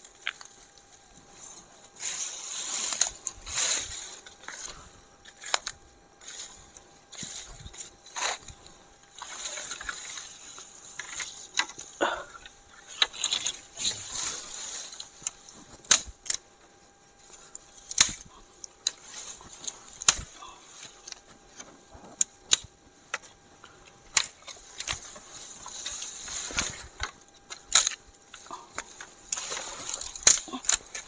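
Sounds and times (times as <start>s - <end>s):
undergrowth rustling: 0.0s - 31.0s
sticks snapping: 2.7s - 8.6s, 9.2s - 16.4s, 17.3s - 31.0s.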